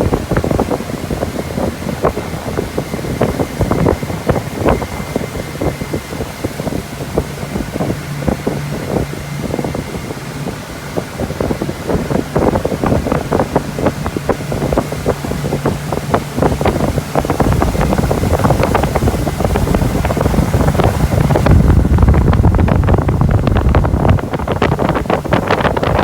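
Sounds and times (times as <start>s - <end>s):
motorboat engine drone: 0.0s - 26.0s
wind buffeting microphone: 0.0s - 26.0s.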